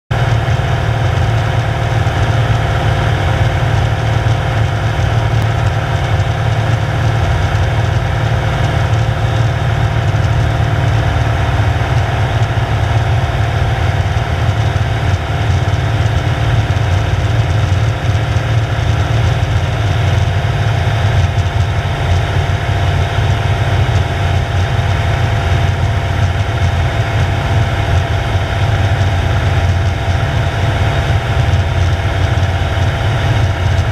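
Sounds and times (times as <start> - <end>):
light airplane engine and propeller: 0.1 - 33.9.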